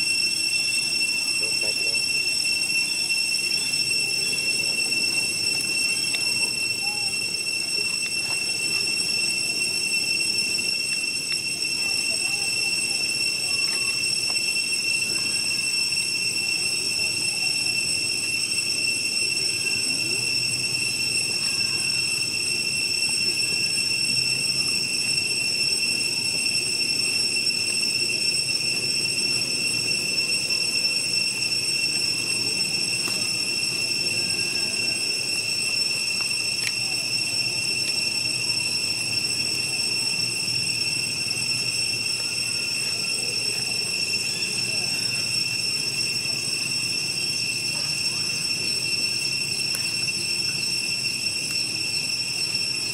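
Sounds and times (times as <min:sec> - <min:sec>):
cicadas droning: 0:00.0 - 0:52.9.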